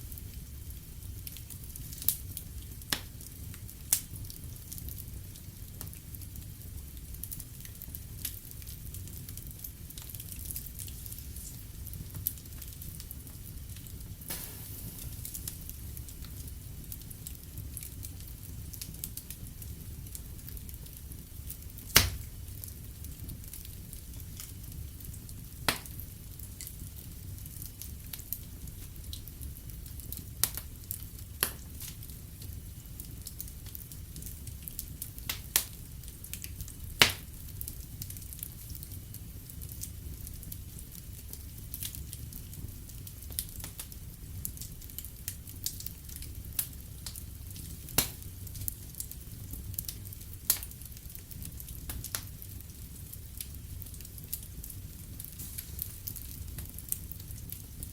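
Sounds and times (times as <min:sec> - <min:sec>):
fire popping: 0:00.0 - 0:57.9
wood fire crackling: 0:00.0 - 0:57.9.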